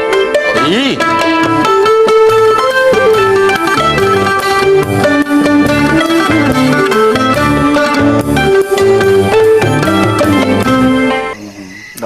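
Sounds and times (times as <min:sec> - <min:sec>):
plucked guitar-like melody: 0:00.0 - 0:11.4.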